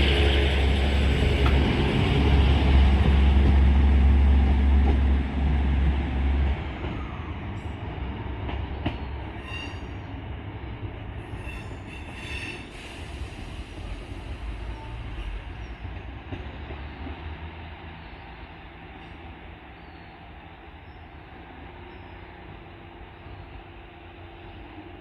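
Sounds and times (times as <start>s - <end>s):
diesel train engine drone: 0.0s - 25.0s.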